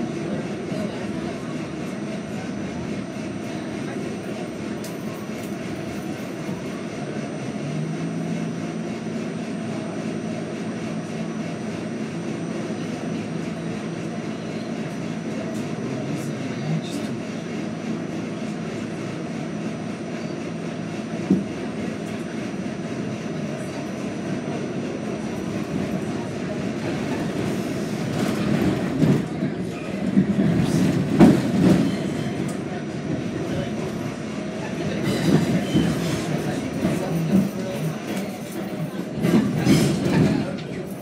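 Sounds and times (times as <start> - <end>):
subway wheels rumbling: 0.0 - 41.0.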